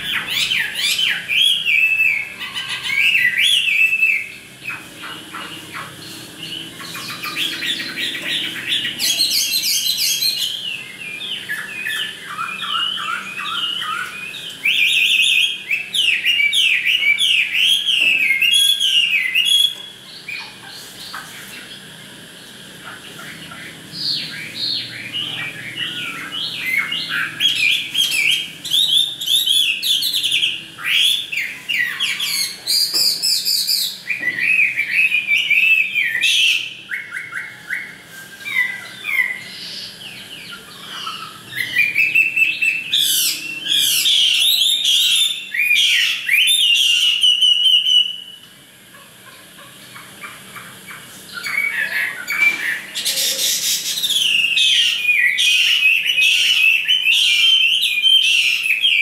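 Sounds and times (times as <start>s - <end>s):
songbird whistles and trills: 0.0s - 5.5s, 6.4s - 20.6s, 24.0s - 48.5s, 50.2s - 59.0s.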